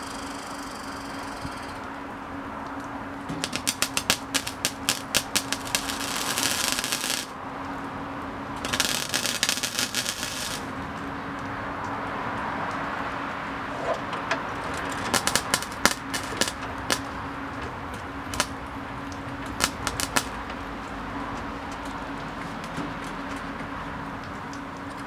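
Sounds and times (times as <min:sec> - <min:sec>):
welding arc crackling: 0:00.0 - 0:13.7, 0:14.4 - 0:25.0.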